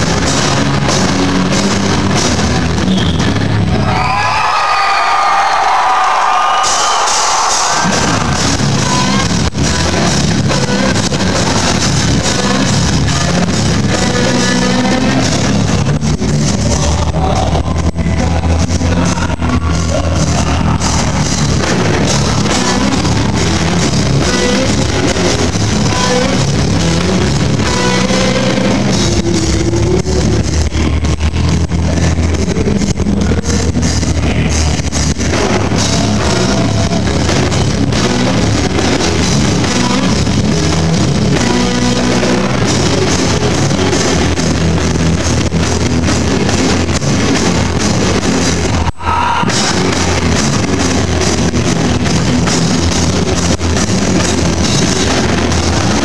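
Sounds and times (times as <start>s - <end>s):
bass guitar: 0.0s - 4.5s, 6.6s - 56.0s
distorted electric guitars: 0.0s - 4.5s, 6.6s - 56.0s
drums: 0.0s - 56.0s.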